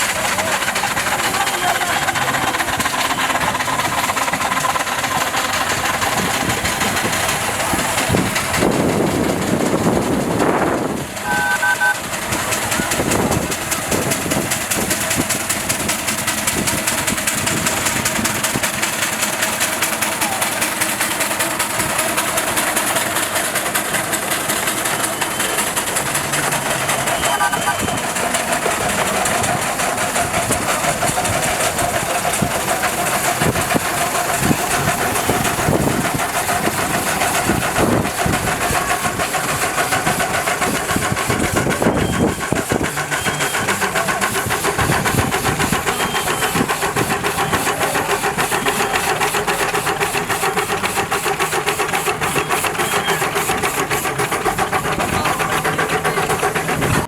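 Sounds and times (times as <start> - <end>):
hiss: 0.0 - 9.8, 12.4 - 57.0
engine running: 0.0 - 57.0
fast even beat: 0.0 - 57.0.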